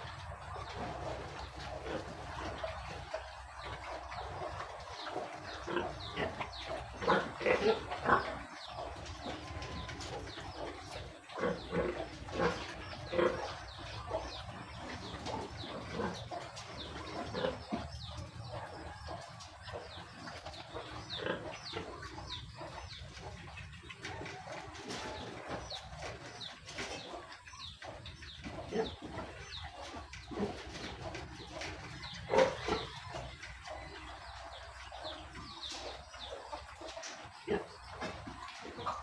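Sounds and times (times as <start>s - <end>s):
pigs grunting: 0.0s - 39.0s
small birds chirping: 0.0s - 39.0s.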